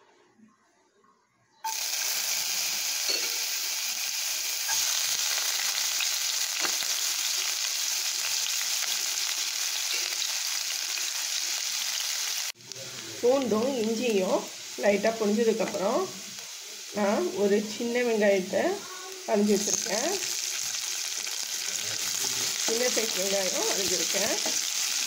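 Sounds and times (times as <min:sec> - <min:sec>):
garlic sizzling in hot oil: 0:01.6 - 0:25.0.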